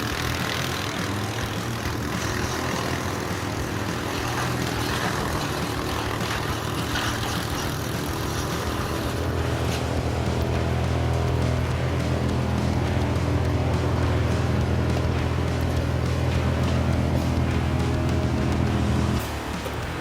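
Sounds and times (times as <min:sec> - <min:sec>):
heavy machine engine running: 0:00.0 - 0:20.0.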